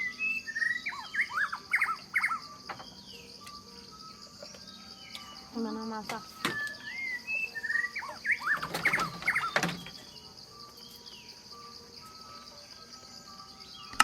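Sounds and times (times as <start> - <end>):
high chirping calls: 0.0 - 14.0
high-pitched insect drone: 0.0 - 14.0.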